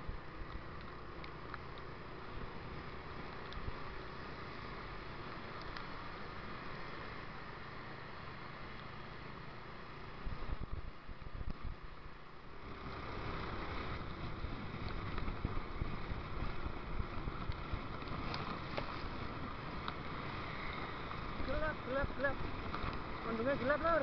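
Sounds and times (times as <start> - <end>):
muffled wind and scooter riding noise: 0.0 - 24.0.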